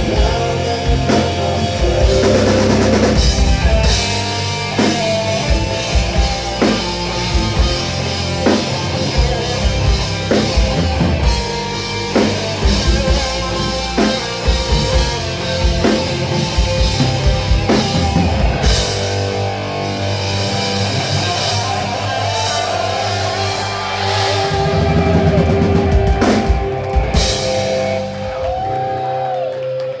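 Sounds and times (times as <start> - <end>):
rock band playing: 0.0 - 30.0.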